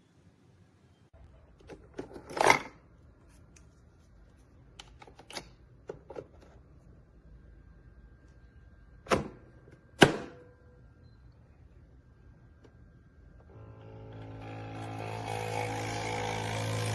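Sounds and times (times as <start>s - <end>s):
faint low hum: 2.8s - 16.8s.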